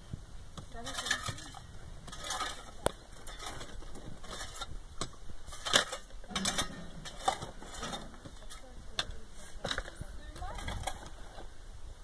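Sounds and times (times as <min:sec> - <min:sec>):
stones clinking and crunching: 0:00.6 - 0:11.3
hand tool scraping stony soil: 0:00.6 - 0:11.5.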